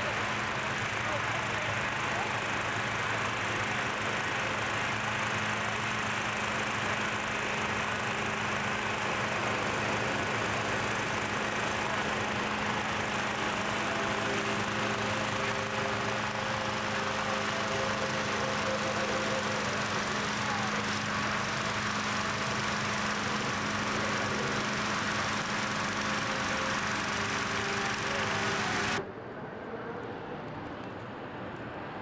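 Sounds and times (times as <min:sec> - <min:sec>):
small gasoline engine fan running: 0:00.0 - 0:31.8.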